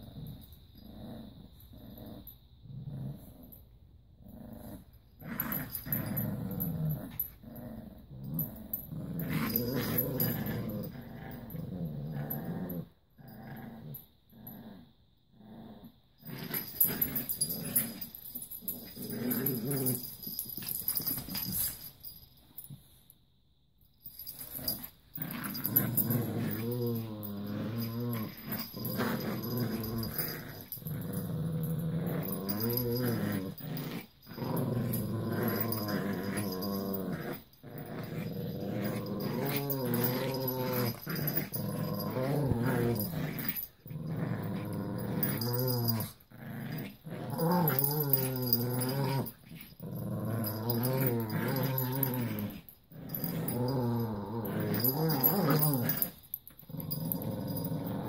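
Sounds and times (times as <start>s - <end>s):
small dogs growling playfully: 0.0s - 22.9s, 24.1s - 58.0s.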